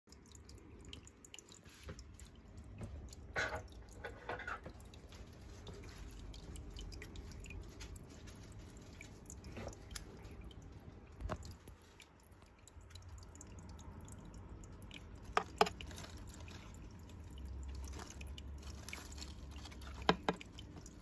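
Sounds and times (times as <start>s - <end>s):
water dripping and trickling: 0.0s - 21.0s
low steady hum: 0.1s - 21.0s.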